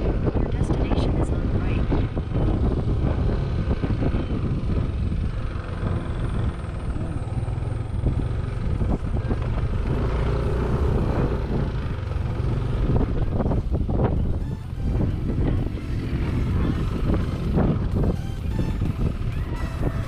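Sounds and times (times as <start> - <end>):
scooter engine running: 0.0 - 20.0
wind buffeting microphone: 0.0 - 20.0.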